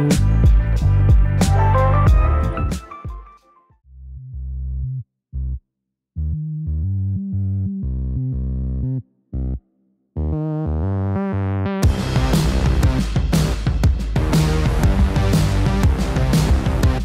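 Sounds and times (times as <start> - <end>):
synthesizer and bass music: 0.0 - 3.5, 6.2 - 9.6, 10.2 - 17.0.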